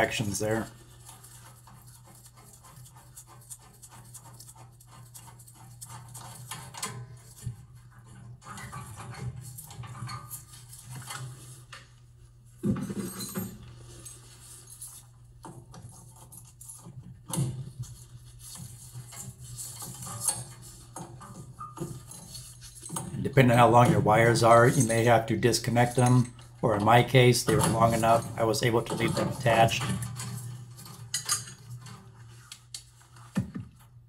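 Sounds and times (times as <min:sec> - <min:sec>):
metal clinks and scrapes: 0:00.0 - 0:11.7, 0:12.6 - 0:34.0.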